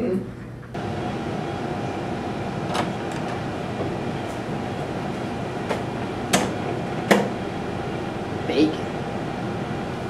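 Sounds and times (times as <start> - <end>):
room noise: 0.0 - 10.0.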